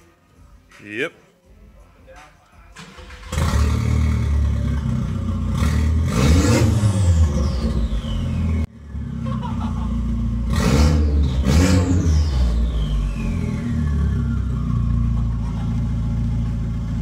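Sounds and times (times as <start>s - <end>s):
car engine revving: 2.8s - 17.0s.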